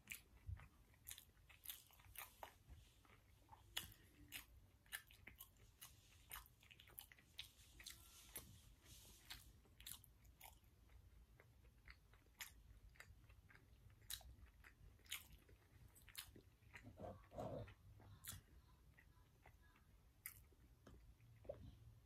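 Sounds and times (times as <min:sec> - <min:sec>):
faint wet chewing clicks: 0:00.0 - 0:08.0, 0:09.2 - 0:22.0.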